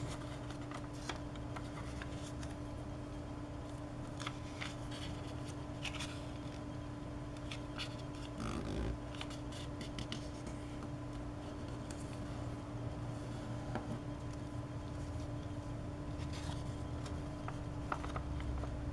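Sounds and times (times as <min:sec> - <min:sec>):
paper rustling and creasing: 0:00.0 - 0:02.6, 0:03.6 - 0:06.7, 0:07.4 - 0:12.4, 0:14.2 - 0:18.9
background hum: 0:00.0 - 0:18.9.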